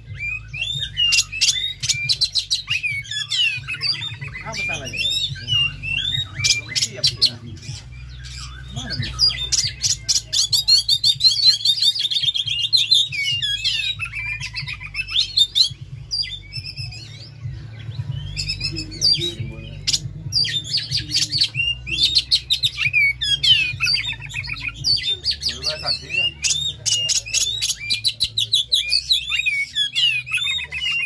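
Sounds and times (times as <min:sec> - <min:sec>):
bird singing chirps and trills: 0:00.0 - 0:31.0.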